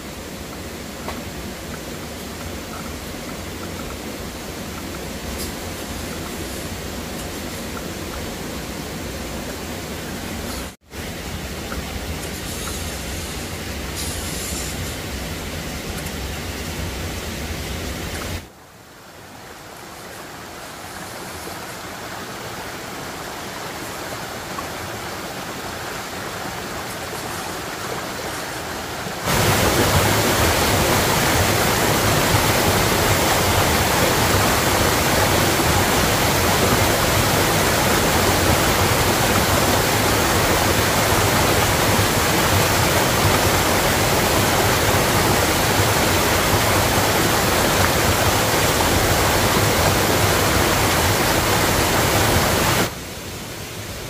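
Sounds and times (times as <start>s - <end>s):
steady rushing noise: 0.0s - 54.0s.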